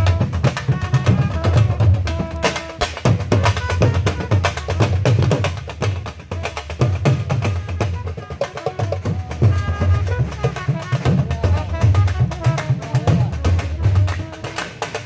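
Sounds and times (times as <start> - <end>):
drum played fast: 0.0 - 15.0.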